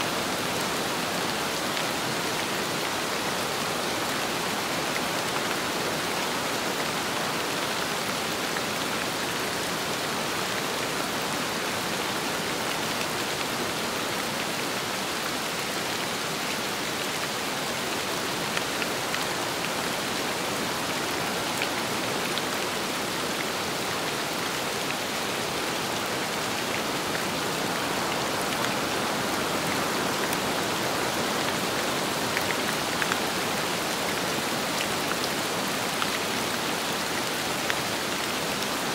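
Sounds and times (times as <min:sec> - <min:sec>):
rain falling with wind: 0:00.0 - 0:38.9.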